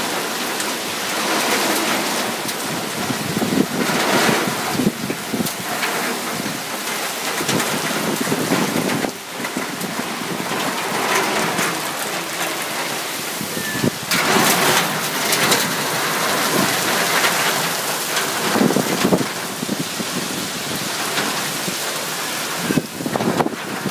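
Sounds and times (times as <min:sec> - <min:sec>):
heavy rain pouring: 0:00.0 - 0:23.9
strong wind gusts: 0:01.0 - 0:23.9.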